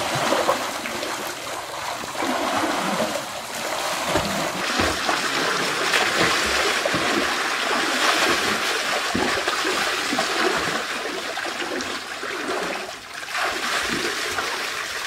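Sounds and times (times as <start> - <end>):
people splashing and wading: 0.0 - 15.0
water pouring into pool: 0.0 - 15.0.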